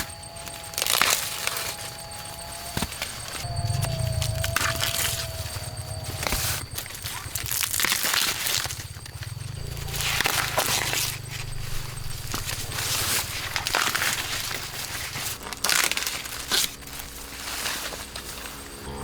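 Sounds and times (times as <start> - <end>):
low steady hum: 0.0 - 19.0
rustling crinkling swishes: 0.0 - 19.0.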